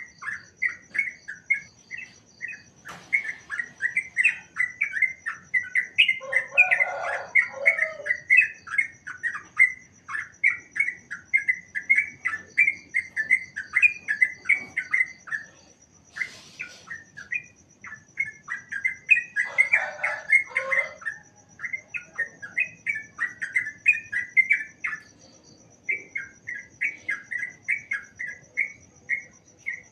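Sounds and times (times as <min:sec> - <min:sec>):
bulbuls chirping: 0:00.0 - 0:29.9
low harsh bird calls: 0:00.0 - 0:29.9.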